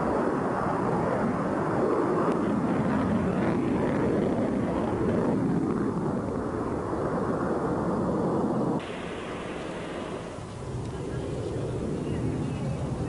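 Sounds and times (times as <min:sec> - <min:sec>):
jet aircraft engine rumble: 0:00.0 - 0:13.0.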